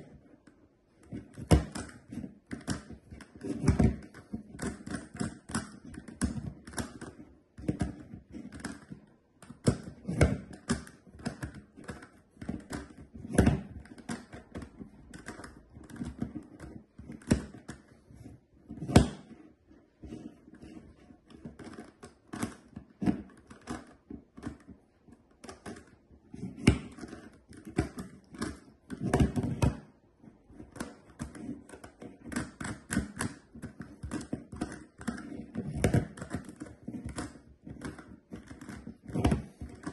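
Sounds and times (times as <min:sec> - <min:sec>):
plastic puzzle faces clicking: 0:01.0 - 0:39.9.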